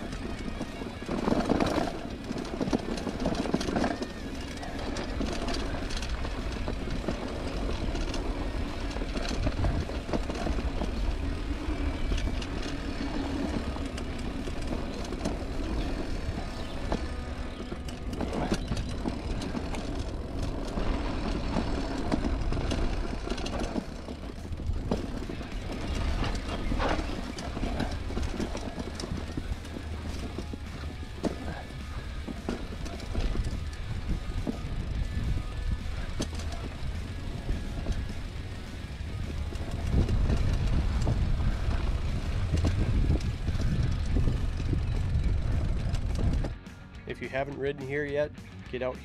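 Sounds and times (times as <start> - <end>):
wind rumble on microphone: 0.0 - 46.7
bike tyres on dirt trail: 0.0 - 48.9
bike rattling over bumps: 0.0 - 49.0.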